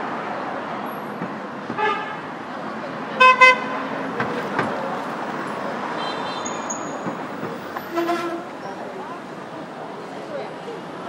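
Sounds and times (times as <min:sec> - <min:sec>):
steady traffic noise: 0:00.0 - 0:11.0.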